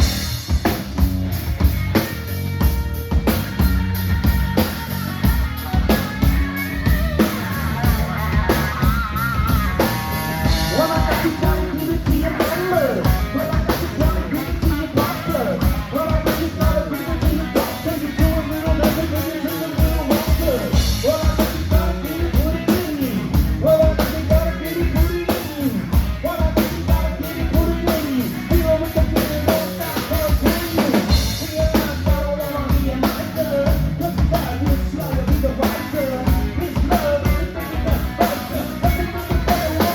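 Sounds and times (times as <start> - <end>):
drum kit beat: 0.0 - 39.9
live rock band playing: 0.0 - 39.9
person singing: 6.3 - 39.9.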